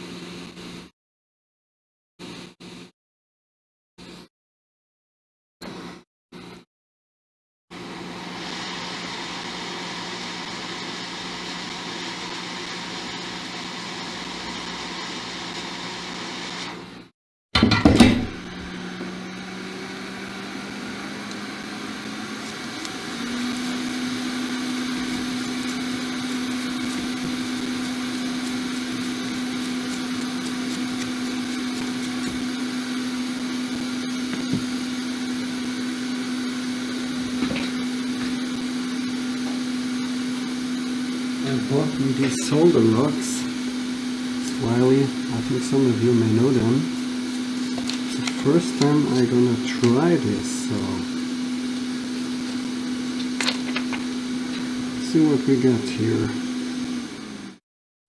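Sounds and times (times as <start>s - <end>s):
electric fan motor whirring: 7.8s - 17.0s, 18.1s - 57.6s.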